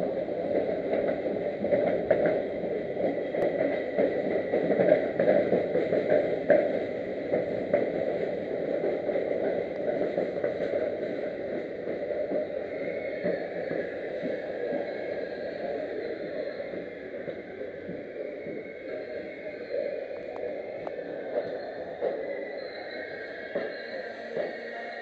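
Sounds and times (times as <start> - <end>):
train rolling rumble: 0.0 - 25.0.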